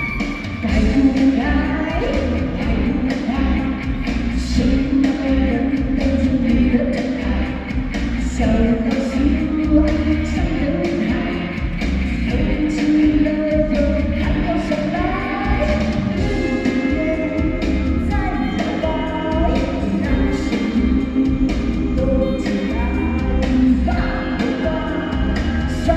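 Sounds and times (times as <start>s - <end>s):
backing music with bass: 0.0s - 25.9s
person singing: 0.0s - 25.9s.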